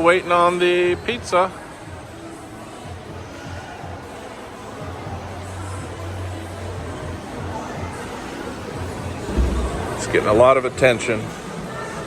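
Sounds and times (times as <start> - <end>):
indistinct crowd: 0.0 - 12.0.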